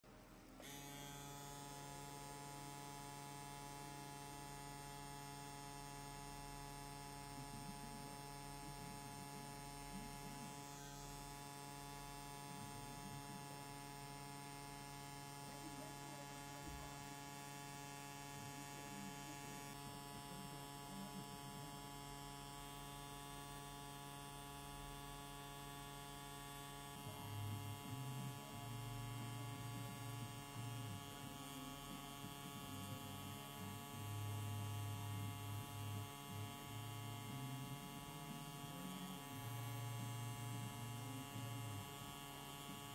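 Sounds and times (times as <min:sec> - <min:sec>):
tattoo machine humming: 0:00.3 - 0:42.9.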